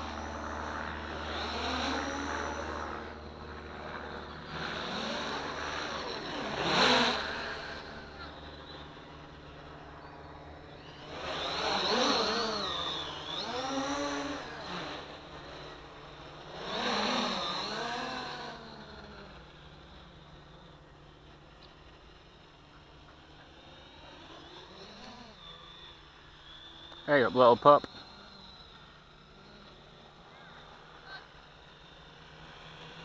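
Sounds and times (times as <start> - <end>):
quadcopter propellers whirring: 0.0 - 33.0.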